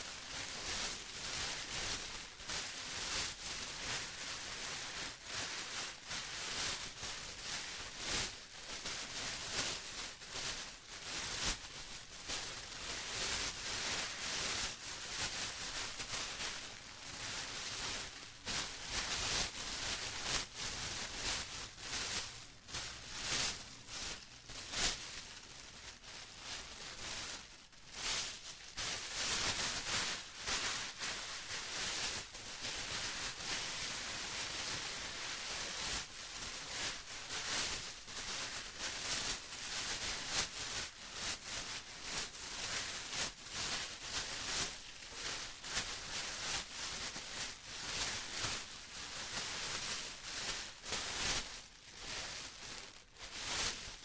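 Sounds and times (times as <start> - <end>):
plastic crumpling and crinkling: 0.0 - 54.0.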